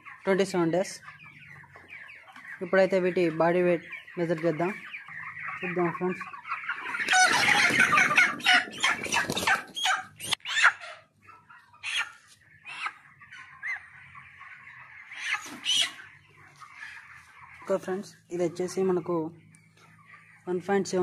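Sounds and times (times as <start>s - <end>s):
chickens scuffling: 0.0s - 21.0s
chickens squawking loudly: 0.0s - 21.0s.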